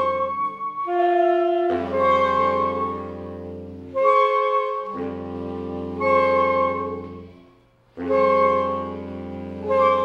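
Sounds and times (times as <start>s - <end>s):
low baritone saxophone note: 0.0s - 10.0s
saxophones playing held chords: 0.0s - 10.0s.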